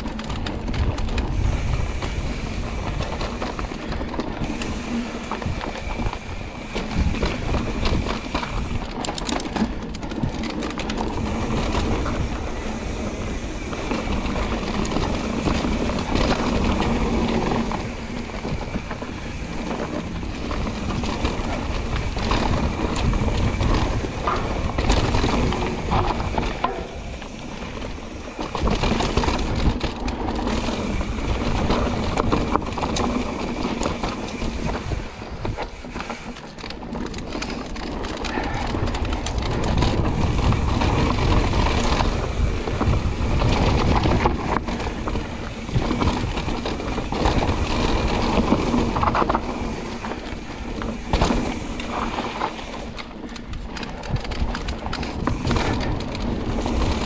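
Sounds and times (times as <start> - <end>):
bike chain clattering: 0.0 - 57.0
bike tyres rolling over dirt: 0.0 - 57.0
wind rumbling on microphone: 0.0 - 57.0.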